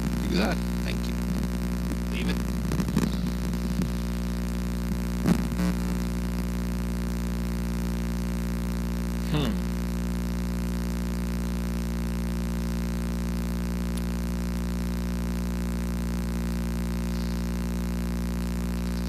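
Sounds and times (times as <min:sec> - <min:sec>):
electrical buzzing hum: 0:00.0 - 0:19.0.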